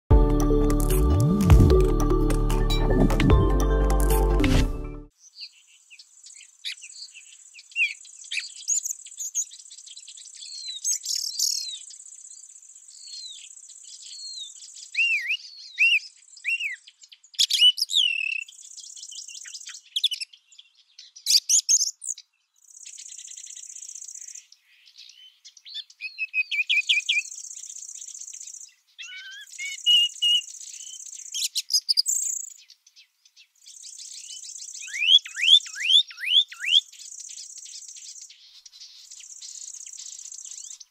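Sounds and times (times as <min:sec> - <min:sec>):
small birds chirping and singing: 0:05.1 - 0:40.9.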